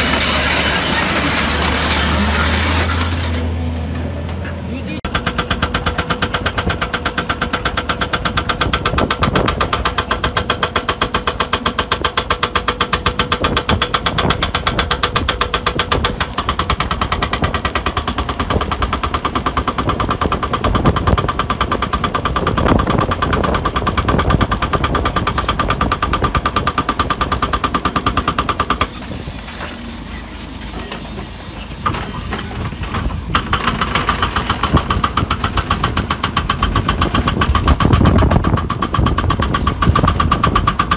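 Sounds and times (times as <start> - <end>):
hydraulic breaker hammering rock: 0.0 - 3.5, 5.1 - 29.1, 31.8 - 40.9
diesel engine running: 0.0 - 40.9.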